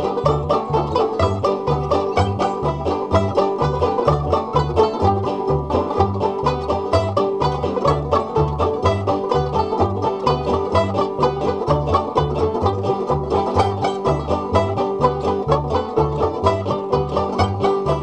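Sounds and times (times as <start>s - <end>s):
banjo bluegrass instrumental: 0.0s - 18.0s.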